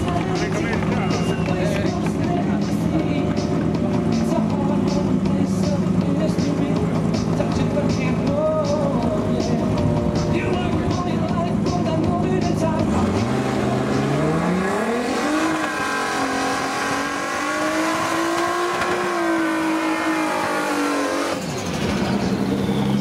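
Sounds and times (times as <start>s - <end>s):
drag car engine revving: 0.0s - 9.6s, 10.2s - 23.0s.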